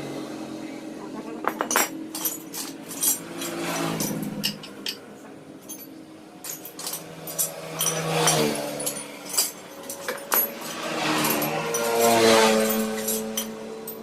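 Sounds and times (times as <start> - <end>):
hand tools clinking on metal: 1.4 - 14.0.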